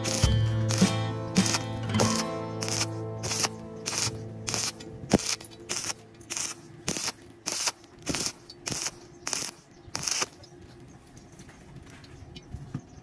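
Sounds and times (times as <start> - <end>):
welding arc crackling: 0.0 - 10.6.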